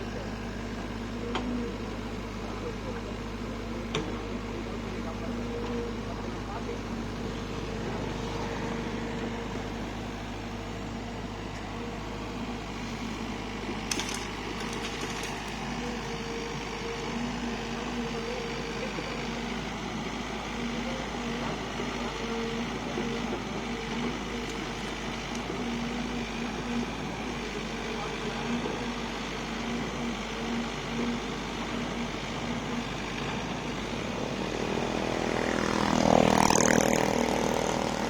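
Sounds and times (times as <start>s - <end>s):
excavator diesel engine droning: 0.0s - 38.0s.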